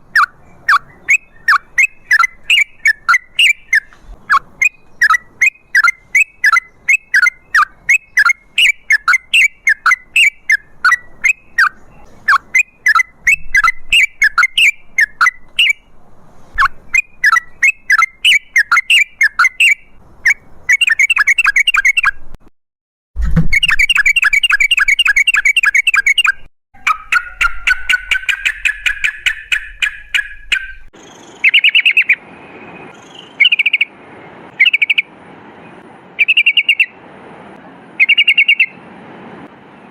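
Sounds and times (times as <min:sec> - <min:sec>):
bird chattering calls: 0:00.2 - 0:15.8, 0:16.6 - 0:22.1, 0:23.8 - 0:32.2, 0:32.9 - 0:33.9, 0:34.6 - 0:35.1, 0:36.2 - 0:37.0, 0:38.0 - 0:38.8.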